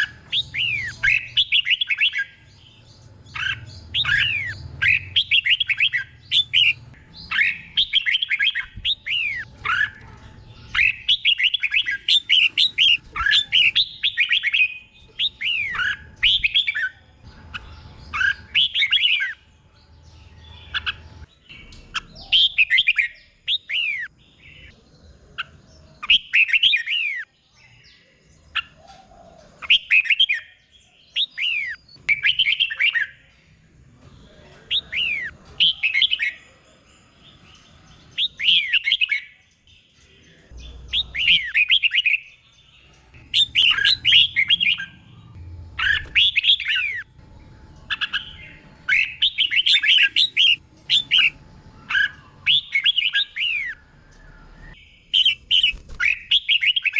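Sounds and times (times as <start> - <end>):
bulbul singing: 0.0 - 56.9.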